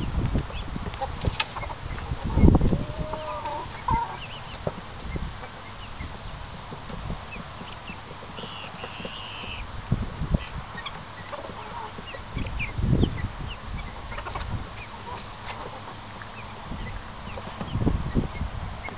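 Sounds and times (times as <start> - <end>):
poultry calling: 1.0 - 6.2, 7.3 - 9.7, 10.3 - 18.9.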